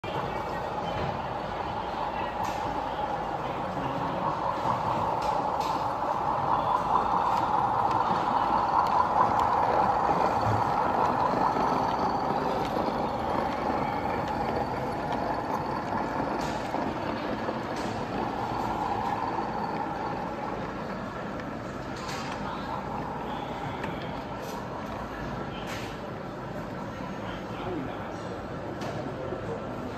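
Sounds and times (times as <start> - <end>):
model diesel locomotive running: 0.0 - 29.9.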